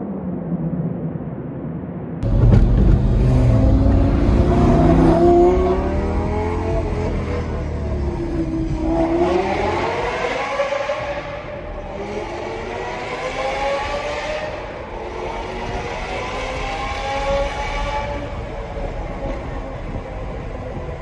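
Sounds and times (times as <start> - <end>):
sports car engine revving: 2.2 - 20.9.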